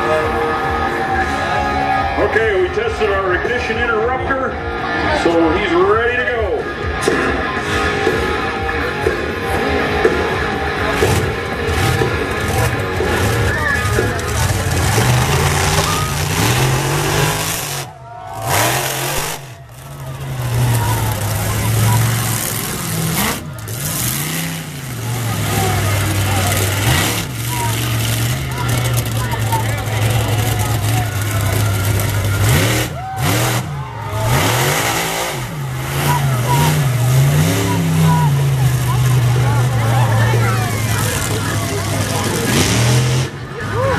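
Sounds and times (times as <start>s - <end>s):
monster truck engines accelerating: 0.0s - 43.9s.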